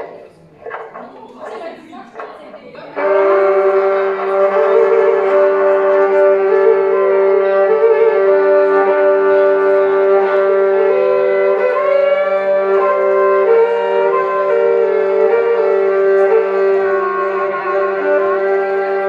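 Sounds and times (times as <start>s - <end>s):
wavering sliding melody: 3.0s - 19.0s.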